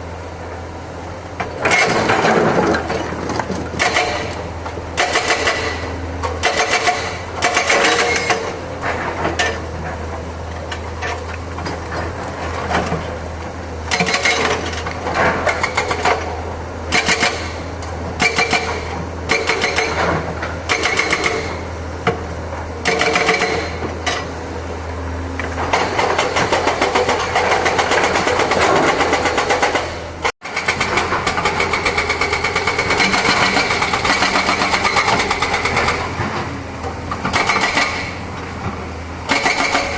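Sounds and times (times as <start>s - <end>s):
continuous rushing noise: 0.0s - 39.9s
excavator diesel engine running: 0.0s - 39.9s.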